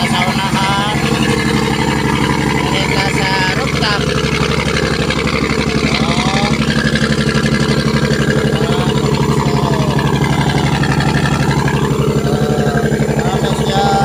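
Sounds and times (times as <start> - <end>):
boat engine throbbing: 0.0 - 14.0.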